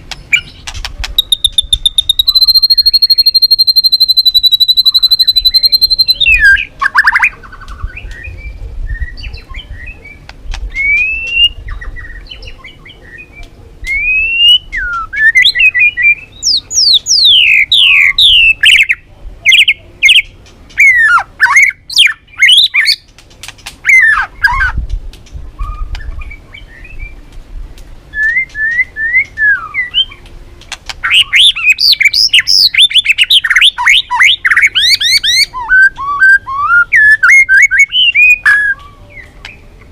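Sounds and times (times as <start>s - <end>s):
bird singing whistled song: 0.1s - 23.0s, 25.6s - 27.2s, 28.1s - 30.3s, 31.0s - 39.7s.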